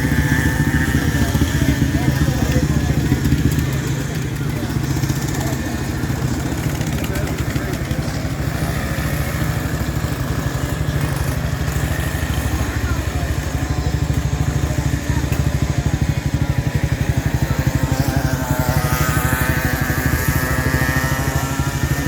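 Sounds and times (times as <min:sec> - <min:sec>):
motorcycle engine pulsing: 0:00.0 - 0:22.0.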